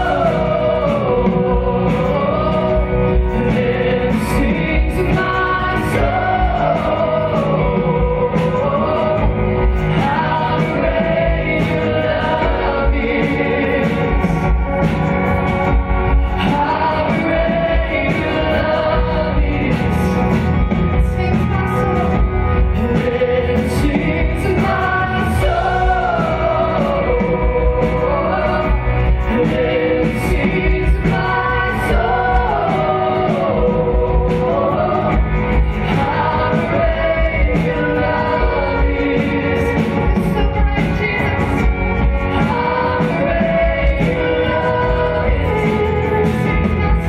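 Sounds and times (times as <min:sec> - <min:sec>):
acoustic and electric guitars: 0:00.0 - 0:47.0
keyboard: 0:00.0 - 0:47.0
vocalists singing together: 0:00.0 - 0:47.0.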